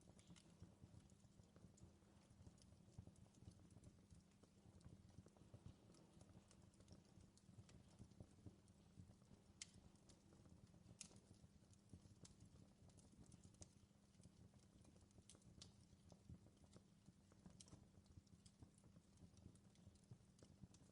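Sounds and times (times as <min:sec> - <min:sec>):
fire crackling: 0:00.0 - 0:20.9.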